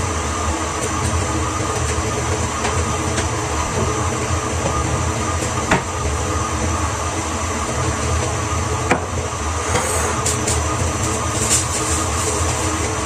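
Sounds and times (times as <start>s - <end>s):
mechanical hum and rumble: 0.0s - 13.0s.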